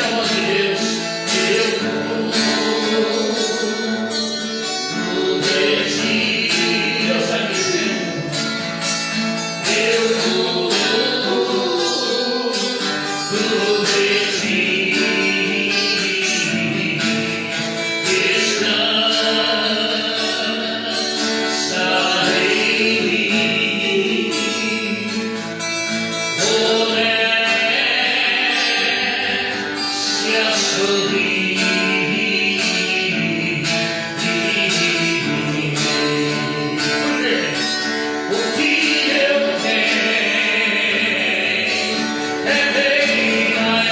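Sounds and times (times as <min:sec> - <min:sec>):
guitar accompaniment: 0:00.0 - 0:43.9
person singing: 0:00.0 - 0:43.9.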